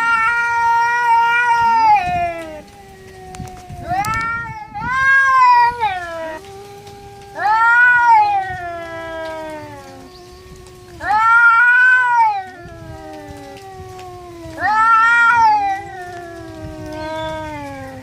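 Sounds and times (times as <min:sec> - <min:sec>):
cat yowling loudly: 0:00.0 - 0:18.0
low moaning cat yowl: 0:00.0 - 0:18.0.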